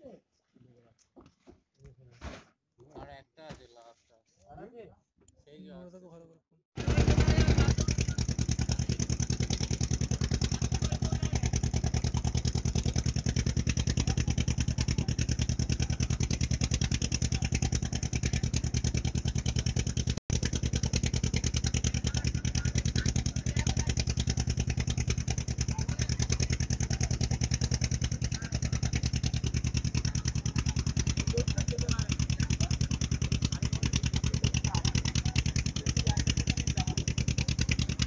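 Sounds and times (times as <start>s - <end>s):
motor boat engine running: 6.8s - 38.0s.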